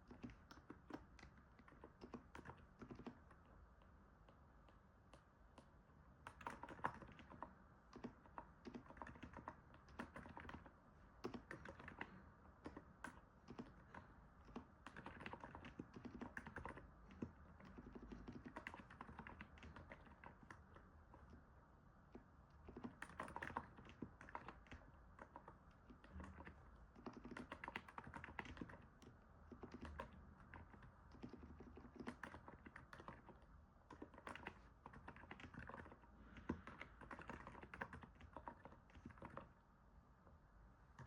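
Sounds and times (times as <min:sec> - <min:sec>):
quiet keyboard typing: 0:00.0 - 0:41.0.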